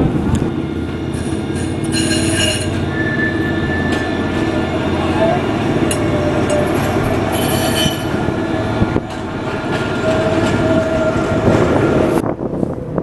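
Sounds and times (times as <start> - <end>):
rail vehicle rumbling on track: 0.0 - 13.0.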